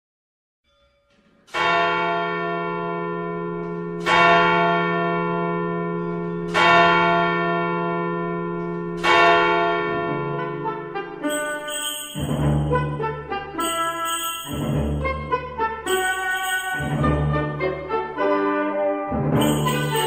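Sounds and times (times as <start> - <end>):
large bell tolling: 0.7 - 17.8, 19.4 - 20.0.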